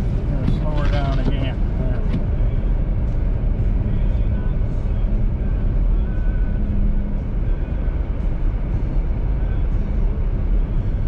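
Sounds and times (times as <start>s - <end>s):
car engine rumble: 0.0s - 11.0s
tyres on snowy road: 0.0s - 11.0s.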